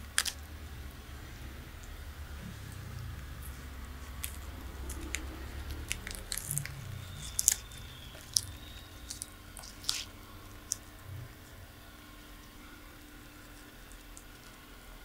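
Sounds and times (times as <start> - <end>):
tortoise chewing with crunches: 0.0 - 15.0.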